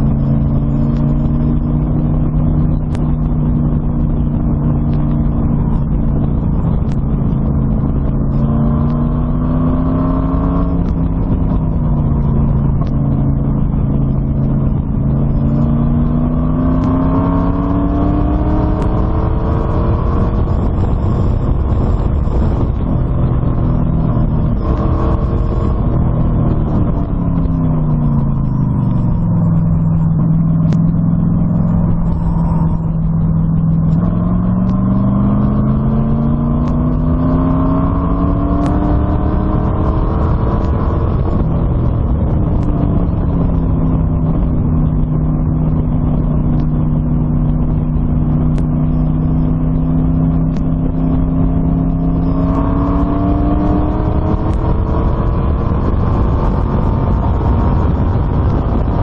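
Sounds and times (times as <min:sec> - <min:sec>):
engine running loudly: 0:00.0 - 0:59.0.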